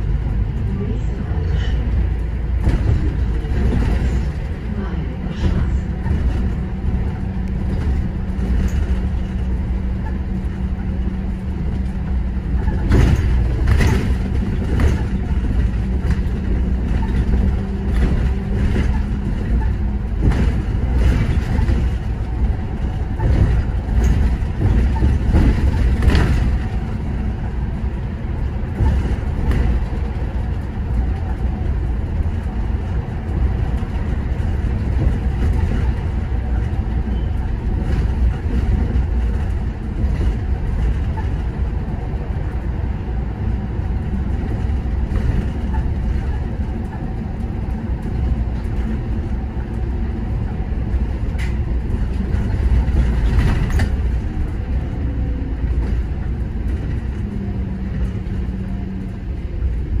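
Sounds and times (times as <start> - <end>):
bus engine and road rumble: 0.0 - 60.0.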